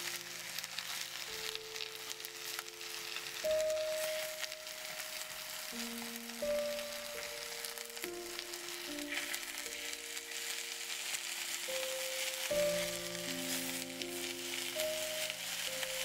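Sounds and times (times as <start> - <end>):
background music with held notes: 0.0 - 16.0
chicken sizzling in a pot: 0.0 - 16.0.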